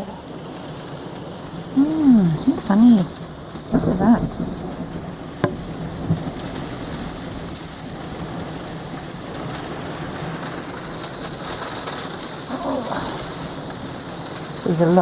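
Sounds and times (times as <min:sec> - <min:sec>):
hail and rain drumming on roof: 0:00.0 - 0:15.0.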